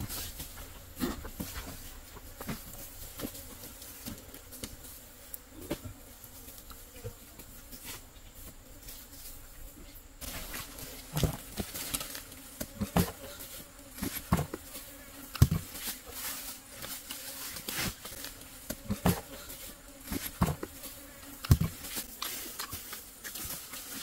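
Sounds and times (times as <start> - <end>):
faint steady buzz: 0.0 - 24.0.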